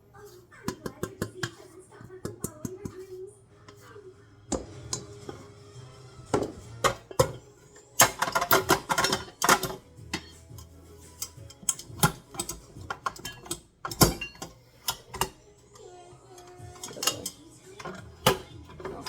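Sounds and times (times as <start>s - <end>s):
utensil tapping and scraping bowl: 0.6s - 3.9s, 4.5s - 5.5s, 6.3s - 15.4s, 16.4s - 19.0s.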